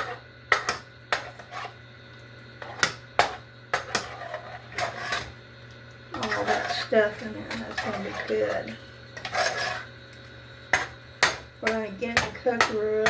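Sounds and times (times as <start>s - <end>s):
spoon scraping a saucepan: 0.0s - 1.8s, 2.6s - 5.4s, 6.1s - 10.0s, 10.7s - 13.0s.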